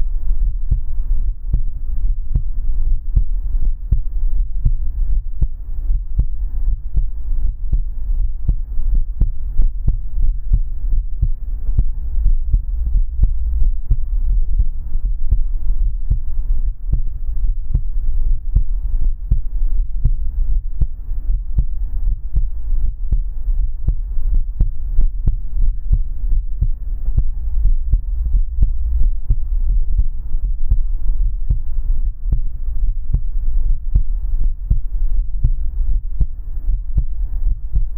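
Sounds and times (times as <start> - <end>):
heartbeat thumps: 0.0 - 37.9
low hum: 0.0 - 37.9.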